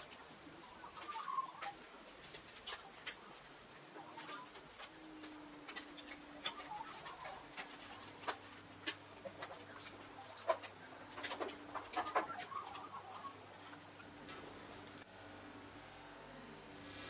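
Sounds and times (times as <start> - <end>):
soft bird calls: 0.1 - 15.0.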